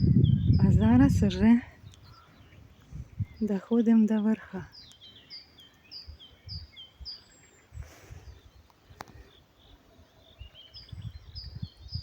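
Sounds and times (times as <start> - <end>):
small birds calling: 0.0 - 12.0.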